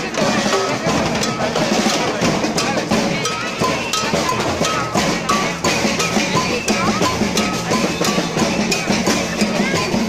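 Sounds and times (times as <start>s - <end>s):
drums: 0.0s - 10.0s.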